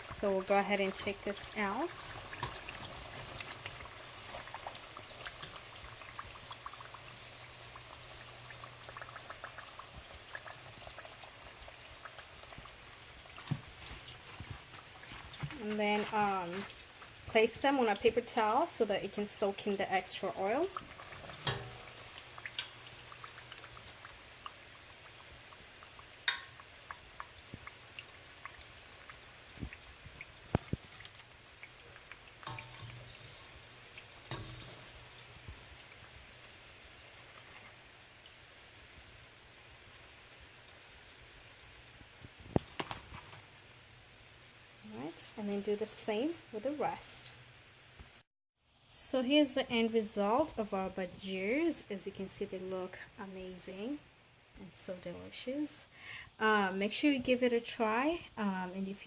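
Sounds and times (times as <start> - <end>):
food deep-frying in oil: 0.0 - 59.0.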